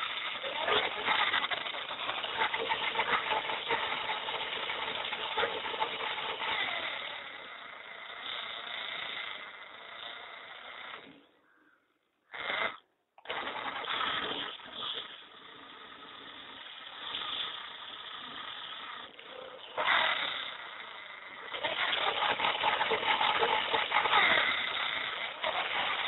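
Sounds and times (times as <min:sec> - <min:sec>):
small electric motors whirring: 0:00.0 - 0:11.2, 0:12.3 - 0:26.0.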